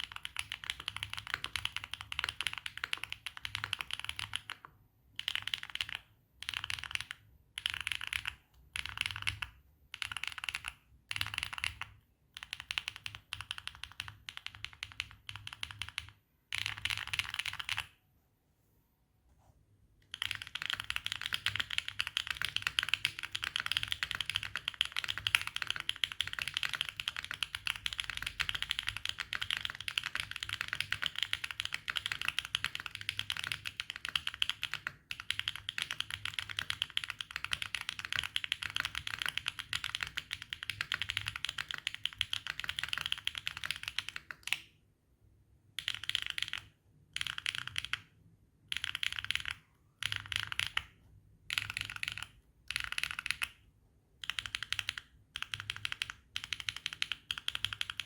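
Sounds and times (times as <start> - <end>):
mechanical keyboard keys clacking: 0.0 - 17.9, 20.0 - 44.6, 45.8 - 48.1, 48.7 - 50.9, 51.5 - 53.6, 54.2 - 58.0.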